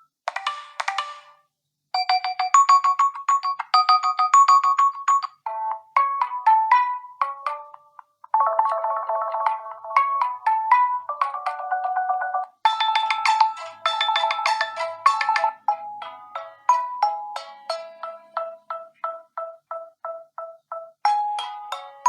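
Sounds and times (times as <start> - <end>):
phone ringtone melodies: 0.0 - 1.4, 2.0 - 22.0.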